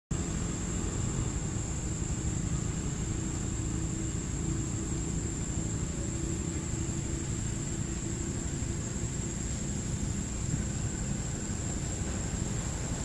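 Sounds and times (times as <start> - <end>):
high-pitched whine: 0.1 - 13.0
low outdoor rumble: 0.1 - 13.0.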